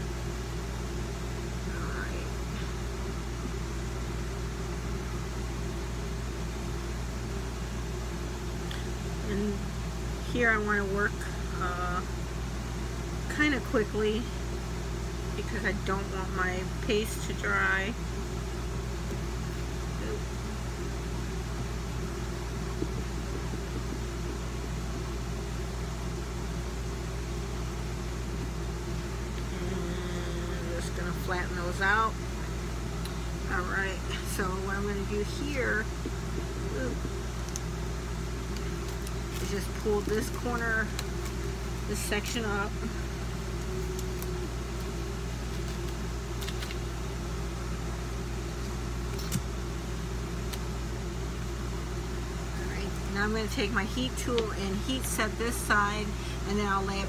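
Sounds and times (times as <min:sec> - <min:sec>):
room noise hiss: 0:00.0 - 0:57.0
steady low hum: 0:00.0 - 0:57.0.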